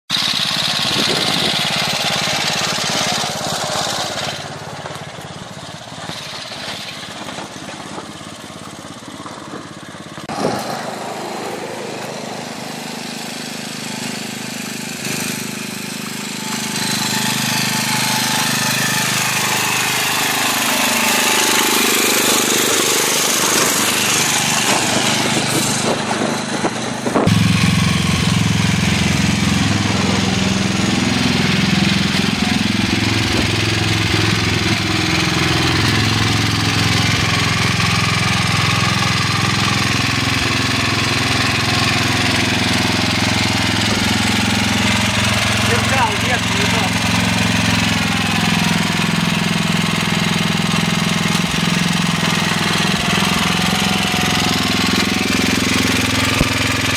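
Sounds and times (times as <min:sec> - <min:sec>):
tractor engine chugging: 0:00.1 - 0:56.9.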